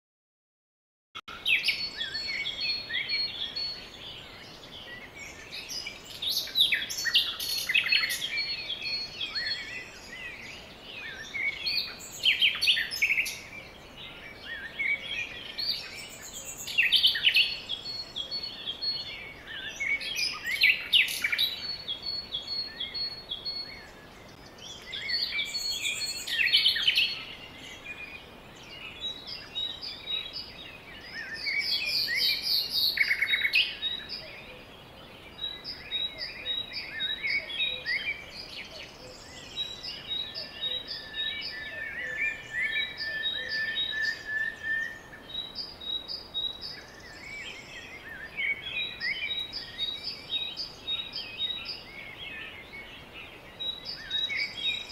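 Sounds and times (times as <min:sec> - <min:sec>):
songbirds chirping and singing: 0:01.2 - 0:54.9
faint background hiss: 0:01.3 - 0:54.9.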